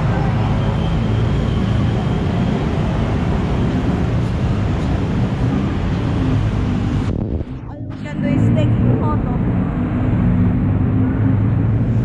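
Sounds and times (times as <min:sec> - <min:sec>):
road vehicle rumble: 0:00.0 - 0:12.0.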